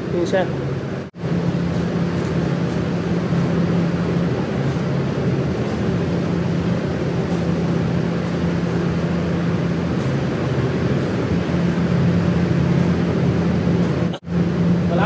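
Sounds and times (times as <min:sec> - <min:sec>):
electric fan humming: 0:00.0 - 0:15.0.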